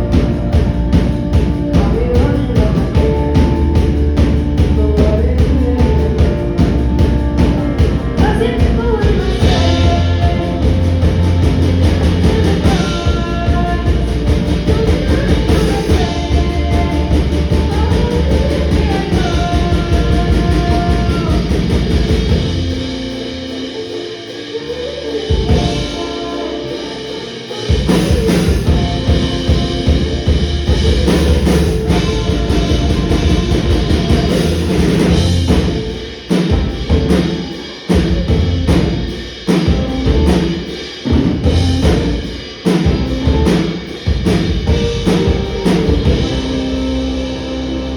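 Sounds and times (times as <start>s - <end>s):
person singing: 0.0s - 40.7s
rock band playing live: 0.0s - 47.9s.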